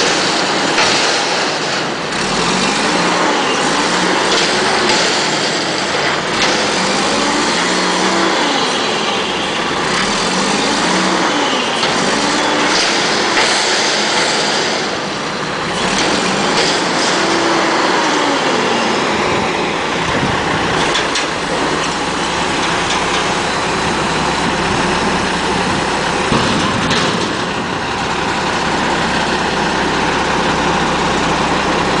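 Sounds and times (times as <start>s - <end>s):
garbage truck diesel engine revving: 0.0s - 32.0s.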